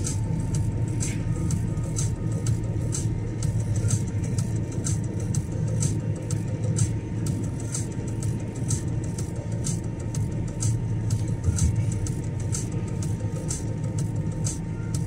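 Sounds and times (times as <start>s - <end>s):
car engine and road noise: 0.0s - 15.0s
faint steady whine: 0.0s - 15.0s.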